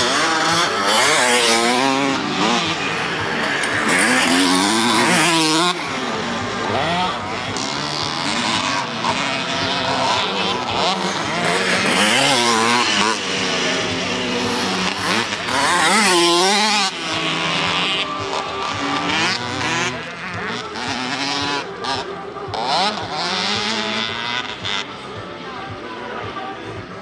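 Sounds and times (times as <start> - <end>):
motocross motorcycles revving: 0.0 - 27.0.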